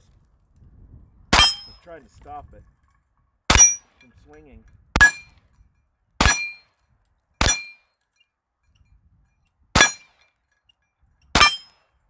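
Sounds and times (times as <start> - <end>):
metallic ring of steel targets: 1.3 - 12.0.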